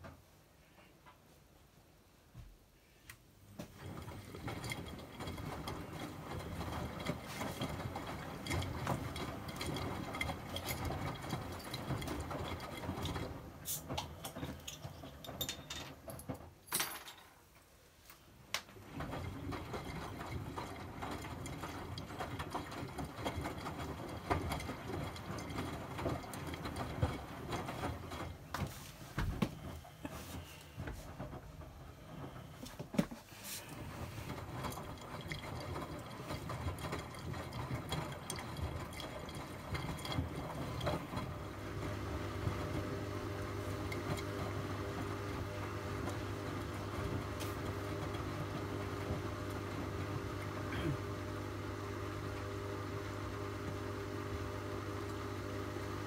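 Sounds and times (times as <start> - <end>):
washing machine drum churning: 3.5 - 16.6, 18.8 - 56.0.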